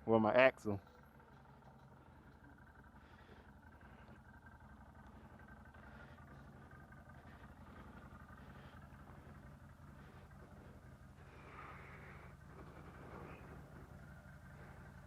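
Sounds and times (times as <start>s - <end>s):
faint atv engine running: 0.0s - 15.0s.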